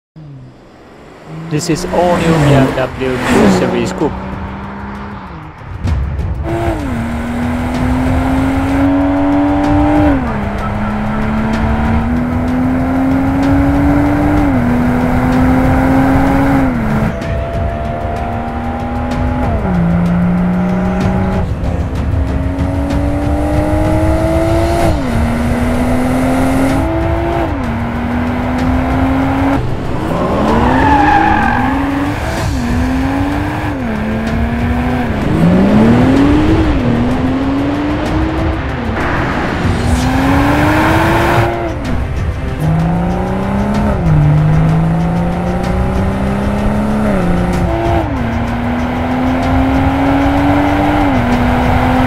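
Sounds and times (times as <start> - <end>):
car engine accelerating hard: 0.1 - 52.0.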